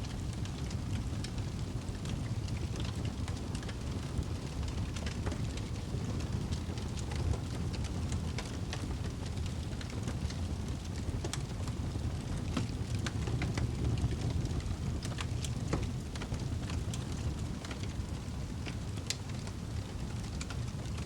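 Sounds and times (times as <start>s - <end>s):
wood fire roaring and crackling: 0.0s - 21.0s.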